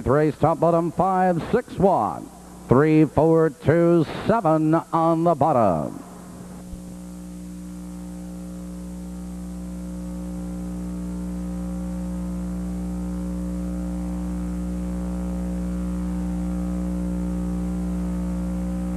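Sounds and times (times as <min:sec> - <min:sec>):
electrical buzzing hum: 0:00.0 - 0:18.9.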